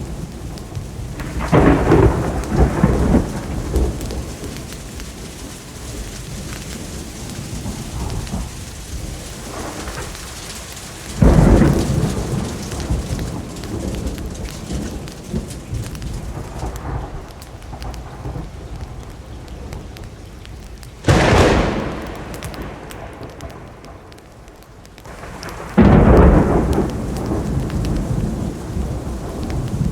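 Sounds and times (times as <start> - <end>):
steady rain: 0.0 - 29.9
thunderclaps rumbling: 0.0 - 29.9.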